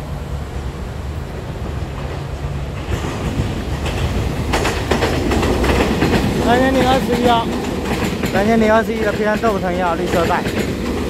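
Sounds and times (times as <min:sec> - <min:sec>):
train low rumble: 0:00.0 - 0:11.0
wheel clacks over rail joints: 0:01.3 - 0:11.0.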